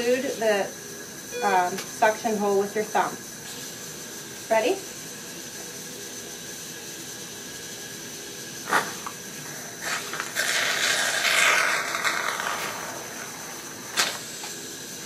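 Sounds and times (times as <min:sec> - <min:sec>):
suction catheter wet hiss: 0:01.6 - 0:15.0.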